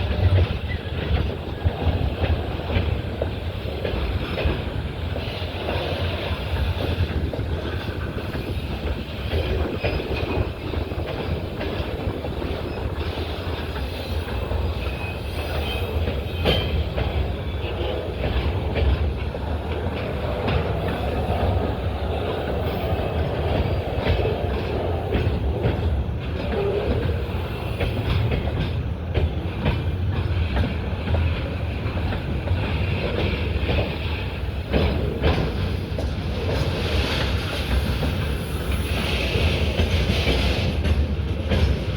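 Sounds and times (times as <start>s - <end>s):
train rumble: 0.0s - 41.9s
wheels clickety-clack on rail joints: 0.0s - 41.9s.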